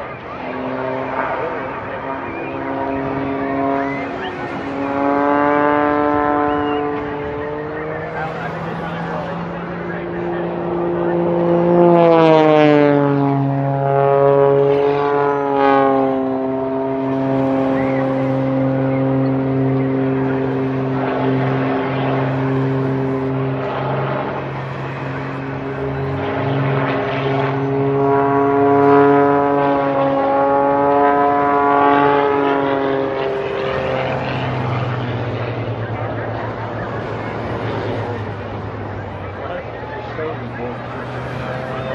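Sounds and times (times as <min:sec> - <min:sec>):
propeller plane engine drone: 0:00.0 - 0:41.9.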